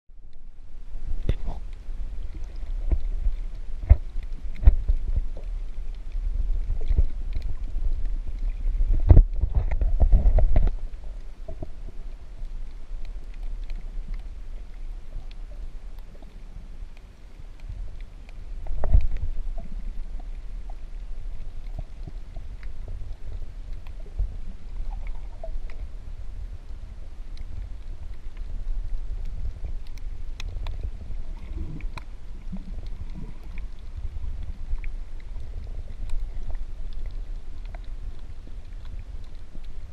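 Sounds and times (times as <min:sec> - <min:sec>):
muffled underwater rumble: 0:00.1 - 0:39.9.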